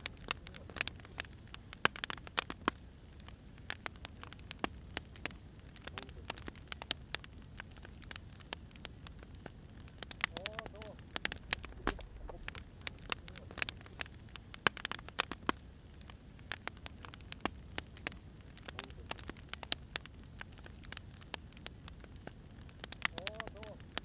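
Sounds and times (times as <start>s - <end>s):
low rumble of burning firewood: 0.0s - 24.0s
wood fire crackling: 0.0s - 24.0s.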